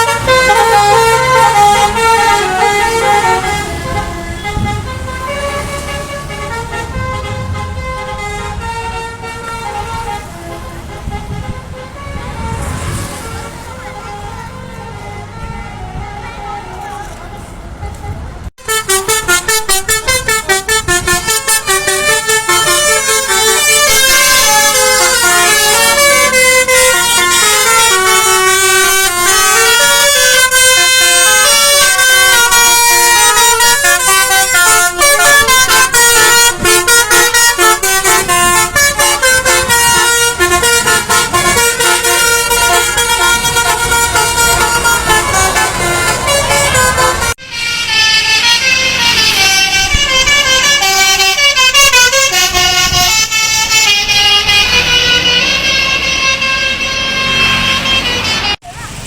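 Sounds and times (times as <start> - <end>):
musical bus horn melody: 0.0 - 59.0
road noise: 0.0 - 59.0.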